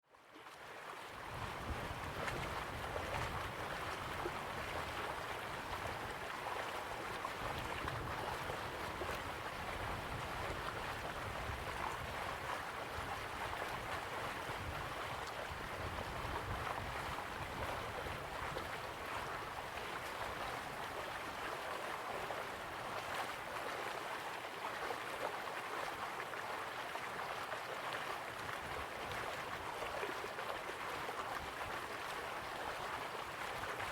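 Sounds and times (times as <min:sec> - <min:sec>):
flowing water rushing: 0:00.2 - 0:33.9.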